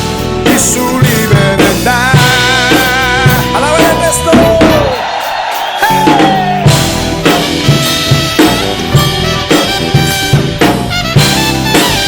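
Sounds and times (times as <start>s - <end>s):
band playing: 0.0s - 12.0s
drum kit playing a steady beat: 0.0s - 12.0s.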